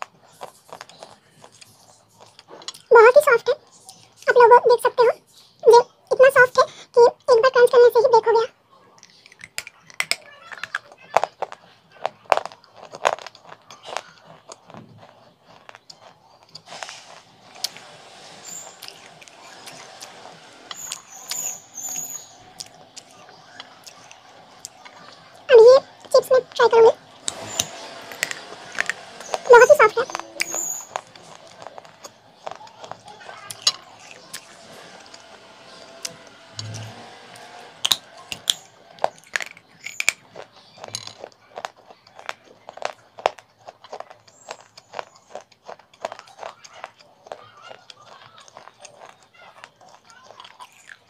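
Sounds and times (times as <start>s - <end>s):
clay crunching: 9.0s - 26.2s, 27.0s - 51.0s.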